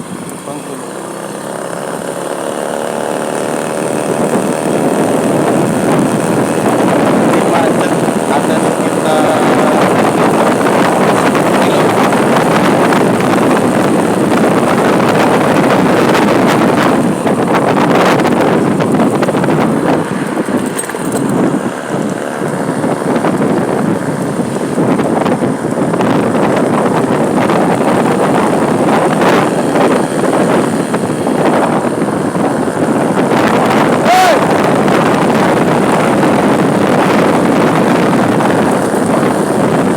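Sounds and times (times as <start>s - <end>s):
road traffic noise: 0.0s - 39.9s
wind buffeting microphone: 0.0s - 39.9s.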